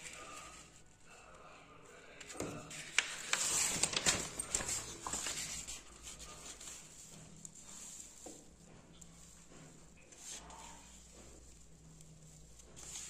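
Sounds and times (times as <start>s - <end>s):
paper rustling: 0.0s - 1.0s, 2.2s - 13.0s.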